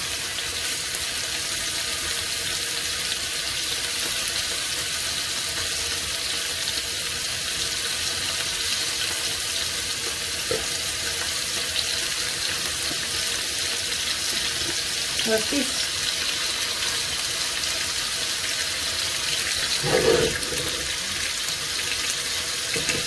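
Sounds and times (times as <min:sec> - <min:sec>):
beef sizzling in hot oil: 0:00.0 - 0:23.0.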